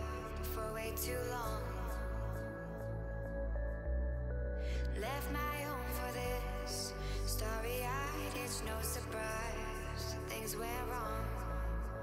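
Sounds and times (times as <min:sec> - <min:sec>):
soft chords over bass: 0:00.0 - 0:12.0.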